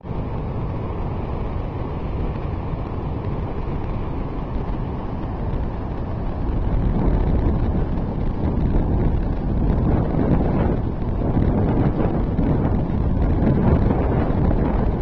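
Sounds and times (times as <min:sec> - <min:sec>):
rough surf on beach: 0:00.0 - 0:15.0
wind buffeting microphone: 0:00.0 - 0:15.0.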